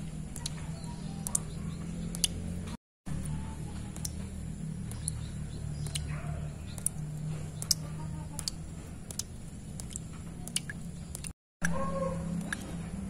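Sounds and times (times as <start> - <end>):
water drops plinking into puddle: 0.3 - 2.4, 3.2 - 12.8.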